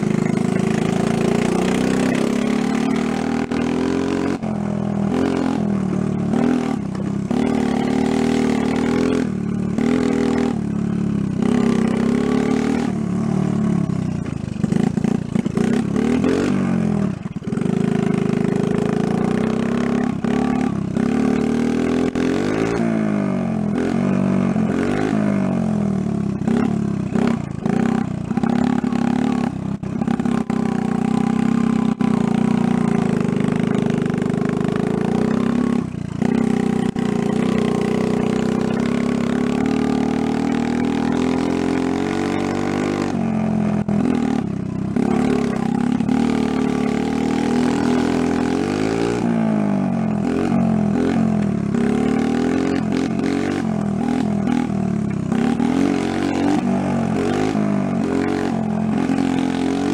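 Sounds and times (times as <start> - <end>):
small motorbike engine revving: 0.0 - 59.9.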